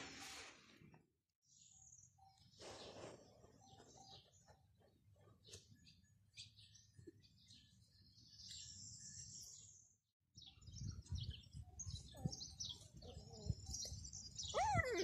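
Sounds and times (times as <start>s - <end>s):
small birds chirping: 1.5s - 15.0s.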